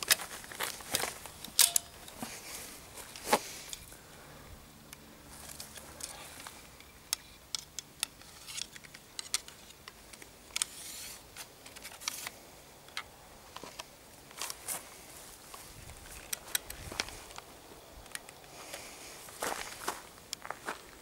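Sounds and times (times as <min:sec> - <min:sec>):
light clicks of crossbow handling: 0:00.0 - 0:04.0, 0:04.9 - 0:20.5.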